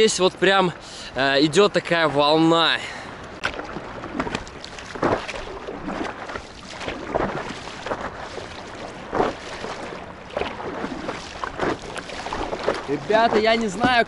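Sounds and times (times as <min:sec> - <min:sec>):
steady wash of water: 0:00.0 - 0:14.0
water splashing against paddleboard: 0:00.4 - 0:14.0.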